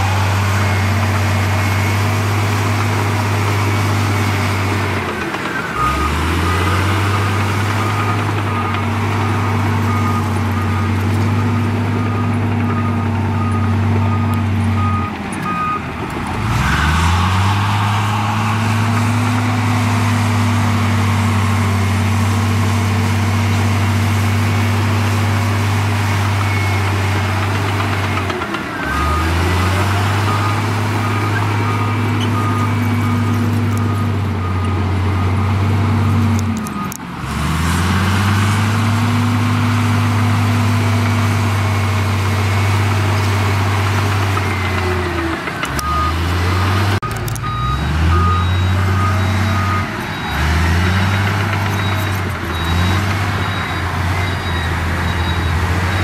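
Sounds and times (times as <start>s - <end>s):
reversing alarm beeping: 0.0s - 22.7s, 23.4s - 56.0s
heavy machinery diesel engine: 0.0s - 56.0s.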